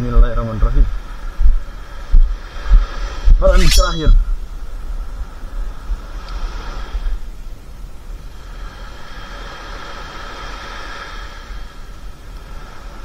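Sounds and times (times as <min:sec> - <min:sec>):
steady low rumble: 0:00.0 - 0:13.0
surf hissing on beach: 0:00.0 - 0:13.0.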